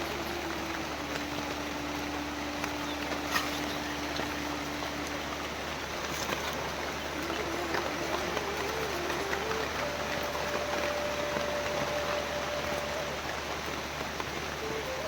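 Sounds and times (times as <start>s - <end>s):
drips ticking: 0.0s - 15.0s
heavy rain hissing: 0.0s - 15.0s
low steady hum: 0.0s - 15.0s.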